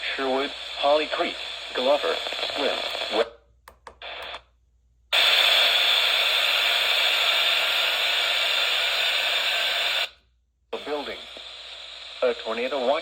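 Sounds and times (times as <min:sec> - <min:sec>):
radio static hiss: 0:00.0 - 0:03.4, 0:04.0 - 0:04.4, 0:05.2 - 0:10.1, 0:10.7 - 0:13.0.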